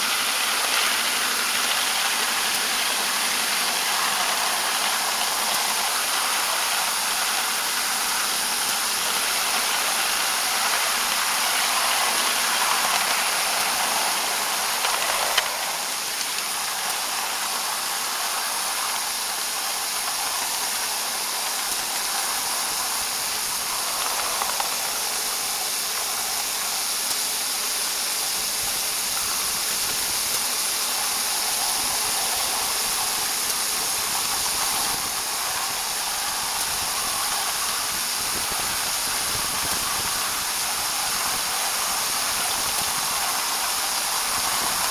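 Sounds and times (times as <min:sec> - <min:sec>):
steam locomotive hissing: 0:00.0 - 0:44.9.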